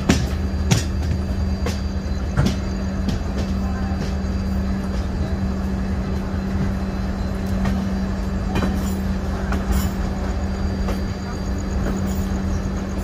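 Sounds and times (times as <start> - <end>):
constant hum: 0.0 - 13.0
train running noise: 0.0 - 13.0
wheels clicking over rail joints: 0.0 - 13.0.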